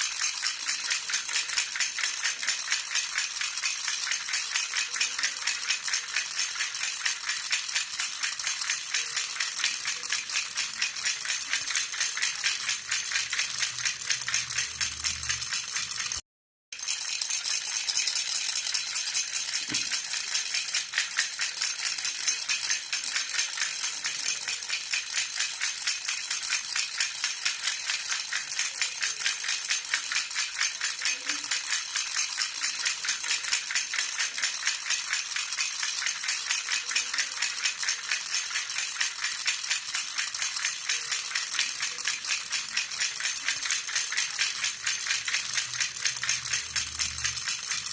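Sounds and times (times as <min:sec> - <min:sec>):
metal baby rattle jingling: 0:00.0 - 0:16.2, 0:16.8 - 0:47.9.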